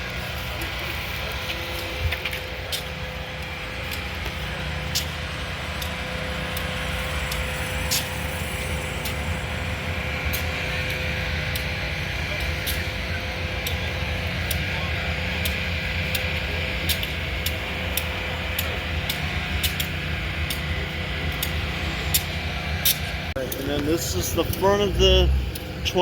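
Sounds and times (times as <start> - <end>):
diesel locomotive engine idling: 0.0 - 26.0.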